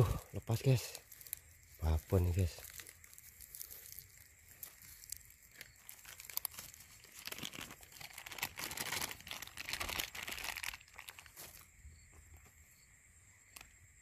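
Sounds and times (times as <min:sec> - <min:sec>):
dry grass rustling: 0:00.6 - 0:12.4.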